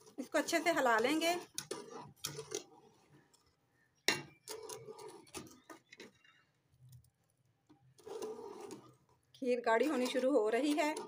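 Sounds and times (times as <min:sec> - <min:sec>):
metal spoon scraping metal pot: 0:00.0 - 0:03.5, 0:04.1 - 0:06.4, 0:07.9 - 0:11.0.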